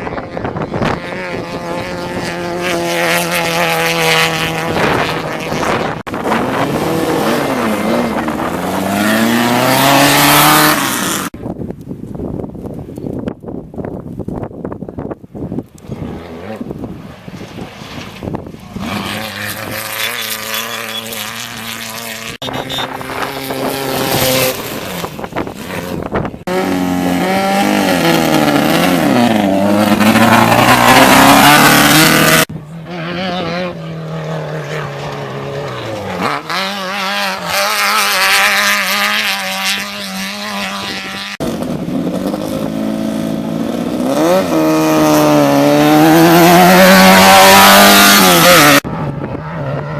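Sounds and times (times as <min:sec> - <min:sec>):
race vehicle engines revving past: 0:00.0 - 0:11.4, 0:15.8 - 0:49.9.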